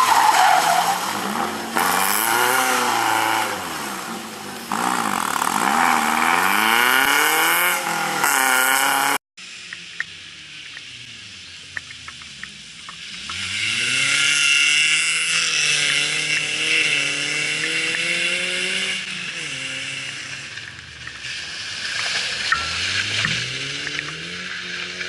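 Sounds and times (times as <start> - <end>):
distant rally car engine revving: 0.0 - 9.7, 10.6 - 25.0.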